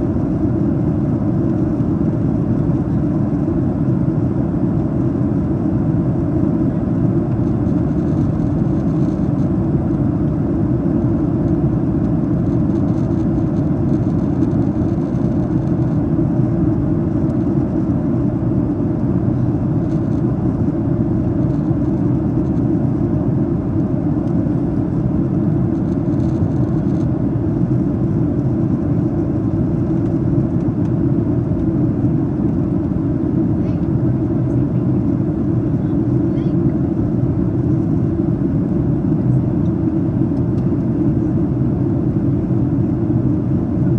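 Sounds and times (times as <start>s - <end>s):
jet engines humming: 0.0s - 43.9s.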